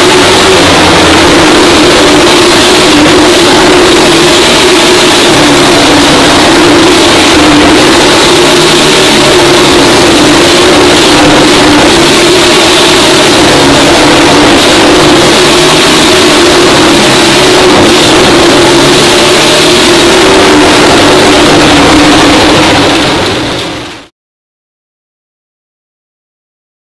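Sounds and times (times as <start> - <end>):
motorcycle engine at high revs: 0.0 - 24.1.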